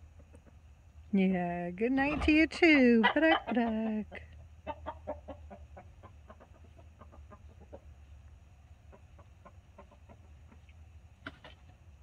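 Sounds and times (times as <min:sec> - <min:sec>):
chickens clucking: 0:00.0 - 0:00.9, 0:01.9 - 0:11.8.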